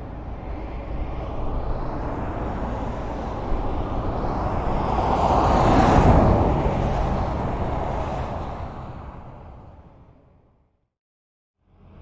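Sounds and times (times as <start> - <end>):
vehicle passing by: 0.2 - 10.2.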